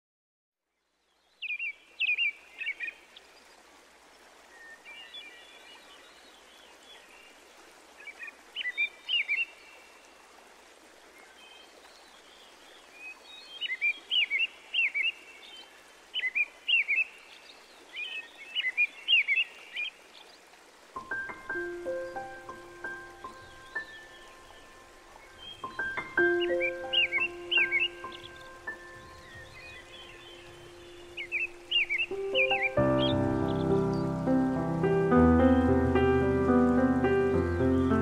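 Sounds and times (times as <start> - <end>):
songbirds chirping: 0.7 - 38.0
steady background hiss: 1.1 - 38.0.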